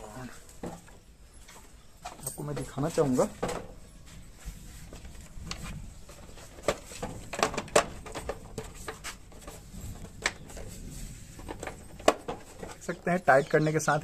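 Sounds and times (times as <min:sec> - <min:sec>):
plastic fairing being handled: 0:00.4 - 0:13.2.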